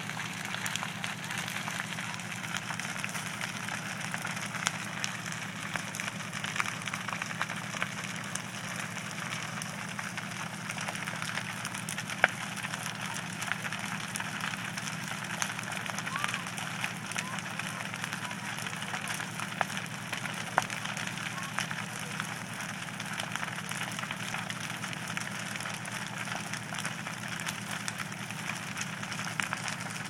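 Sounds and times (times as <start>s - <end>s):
burning timber crackling: 0.0s - 30.0s
flames rushing: 0.0s - 30.0s
low steady hum: 0.0s - 30.0s.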